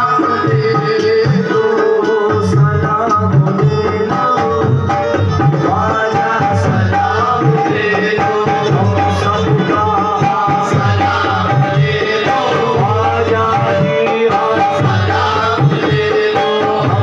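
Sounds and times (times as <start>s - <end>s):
fast tabla rhythm: 0.0s - 17.0s
harmonium melody: 0.0s - 17.0s
voices singing: 0.0s - 17.0s.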